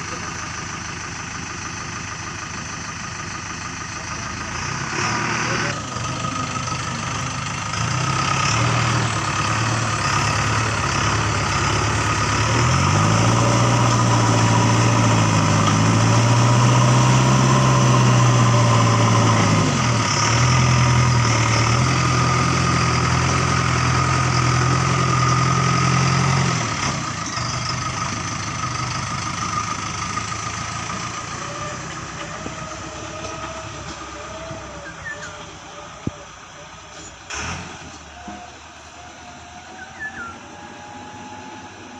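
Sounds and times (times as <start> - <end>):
diesel engine revving: 0.0 - 41.9.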